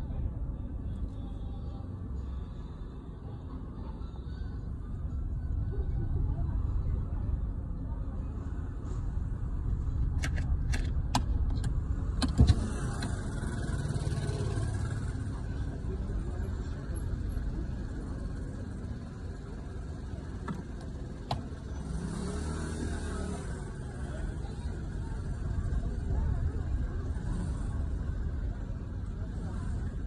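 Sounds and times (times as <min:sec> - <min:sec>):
vehicle low rumble: 0:00.0 - 0:30.0.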